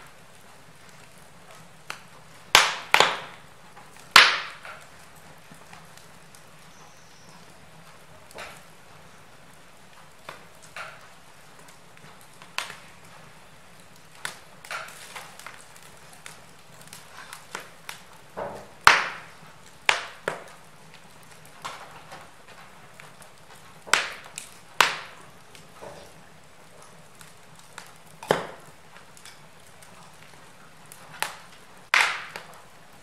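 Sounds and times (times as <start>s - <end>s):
low steady fire hiss: 0.0s - 33.0s
wood fire crackling and popping: 0.0s - 33.0s.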